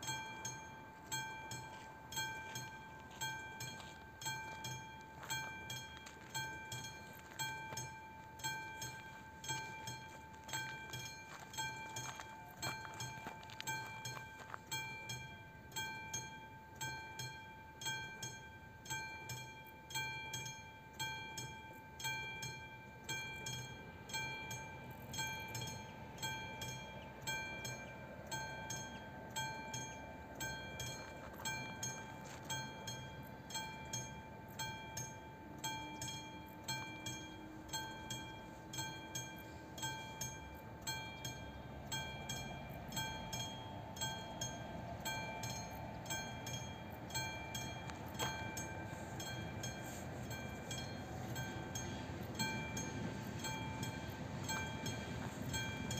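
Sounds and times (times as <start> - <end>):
level crossing bell ringing: 0.0 - 55.9.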